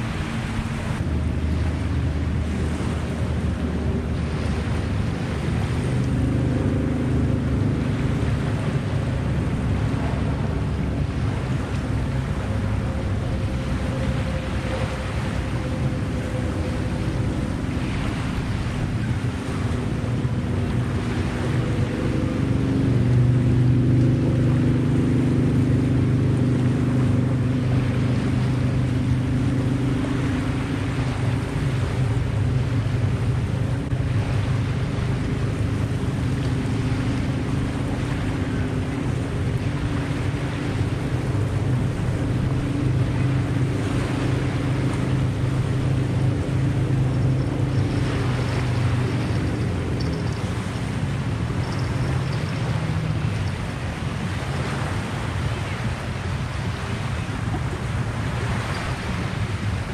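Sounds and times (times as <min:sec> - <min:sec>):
engine drone: 0:00.0 - 0:59.9
water lapping: 0:00.0 - 0:59.9
wind noise: 0:00.0 - 0:59.9.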